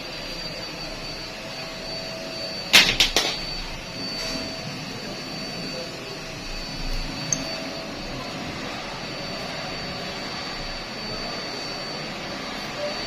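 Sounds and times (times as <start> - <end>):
faint high whine: 0.0 - 13.0
steady hum: 0.0 - 13.0.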